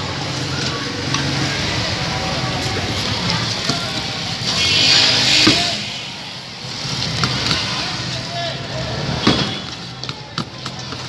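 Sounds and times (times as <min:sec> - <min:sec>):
street traffic: 0:00.0 - 0:11.0
voices: 0:00.0 - 0:11.0.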